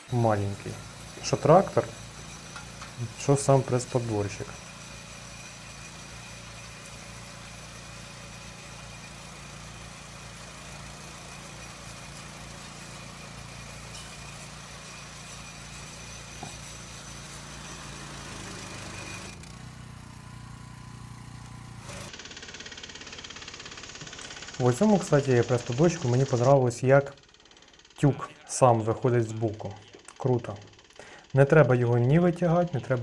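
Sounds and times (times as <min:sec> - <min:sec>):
small tractor engine running: 0:00.0 - 0:33.0.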